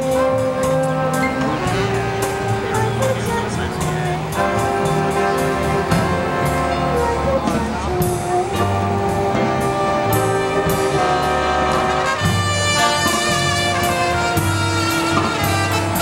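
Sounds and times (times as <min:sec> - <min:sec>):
bass line: 0:00.0 - 0:16.0
big band playing: 0:00.0 - 0:16.0.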